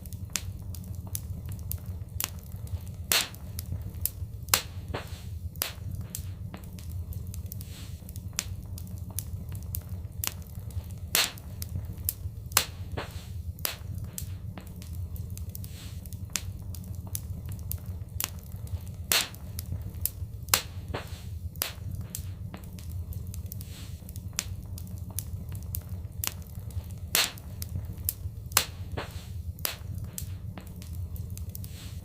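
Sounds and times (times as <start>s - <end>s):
burning wood popping: 0.0s - 32.0s
fire crackling: 0.0s - 32.0s
low rumble of flames: 0.0s - 32.0s.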